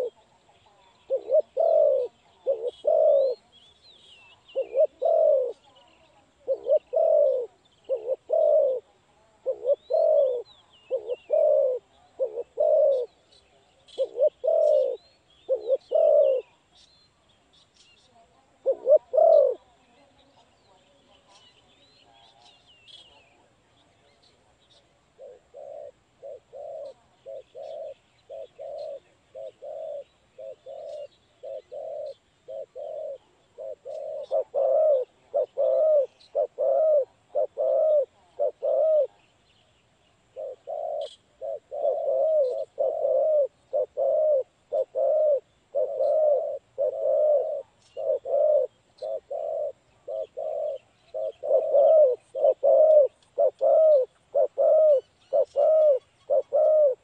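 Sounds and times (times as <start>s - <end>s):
dove cooing: 0.0s - 16.8s, 18.0s - 39.3s, 40.2s - 57.0s
small birds chirping: 0.0s - 57.0s.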